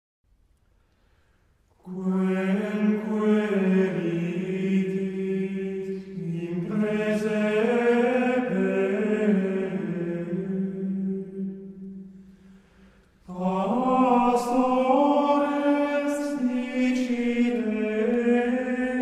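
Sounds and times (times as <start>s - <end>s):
low voices chanting in unison: 1.9s - 19.0s.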